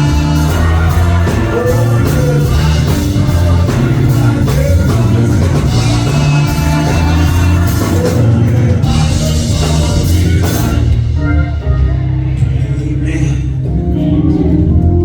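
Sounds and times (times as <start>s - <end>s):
band playing upbeat gospel song: 0.0s - 15.0s.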